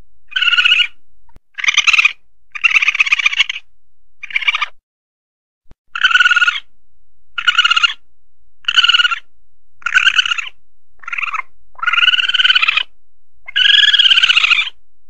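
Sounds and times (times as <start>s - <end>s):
high trilling animal cries: 0.3s - 4.8s, 5.9s - 6.7s, 7.4s - 8.0s, 8.6s - 14.8s.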